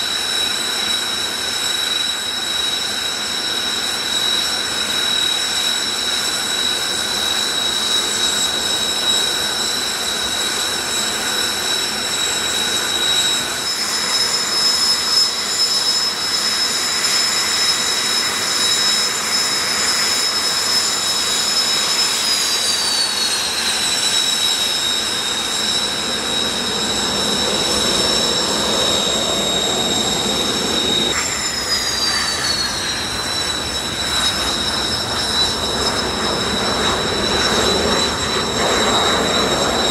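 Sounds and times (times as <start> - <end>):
jet turbine whine: 0.0 - 39.9
rush of engine noise: 2.3 - 39.9.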